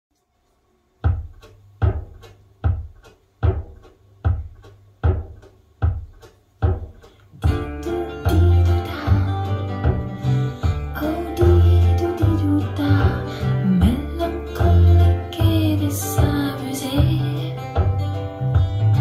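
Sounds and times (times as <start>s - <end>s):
plucked guitar with bass notes: 1.1s - 19.0s.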